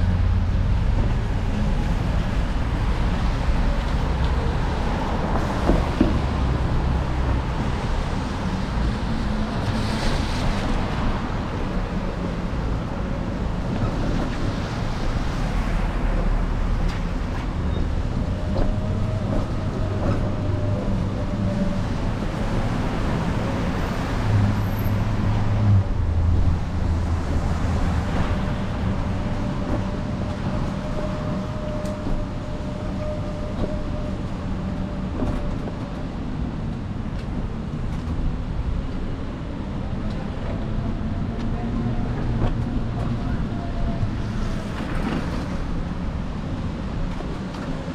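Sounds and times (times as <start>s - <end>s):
passing vehicles hum: 0.0s - 47.9s.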